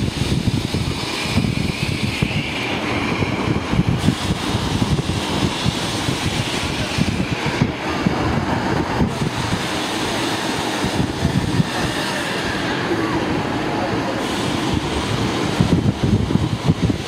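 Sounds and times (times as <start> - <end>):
tram hiss: 0.0 - 17.0
tram wheels rumbling on rails: 0.0 - 17.0.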